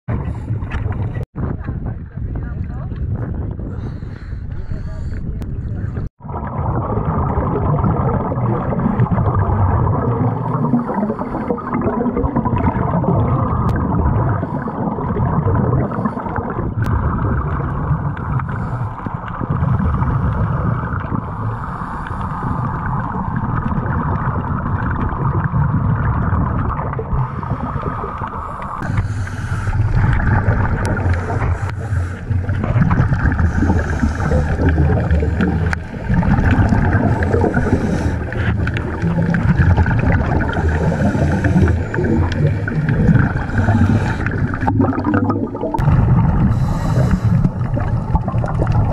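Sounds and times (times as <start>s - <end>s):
underwater rush: 0.1s - 48.9s
exhaled bubbles gurgling: 4.7s - 48.9s.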